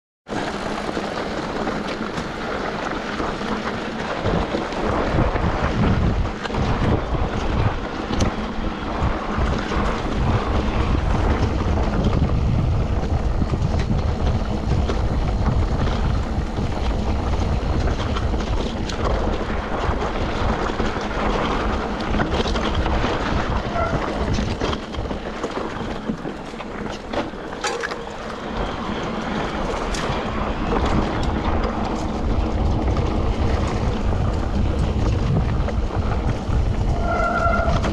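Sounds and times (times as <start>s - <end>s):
wind buffeting microphone: 0.3s - 37.9s.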